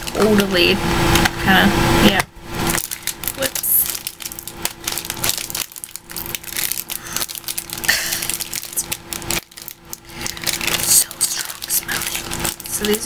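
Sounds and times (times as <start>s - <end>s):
plastic wrapper crinkling: 0.0s - 0.5s, 2.6s - 13.0s
faint steady hum: 0.0s - 13.0s.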